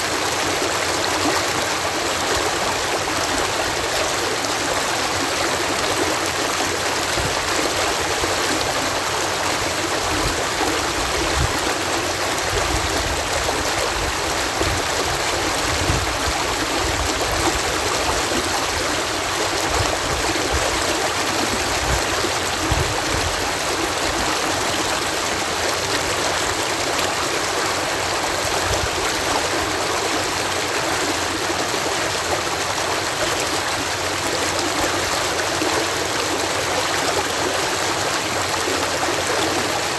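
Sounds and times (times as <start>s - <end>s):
water rushing at a lock: 0.0s - 39.9s.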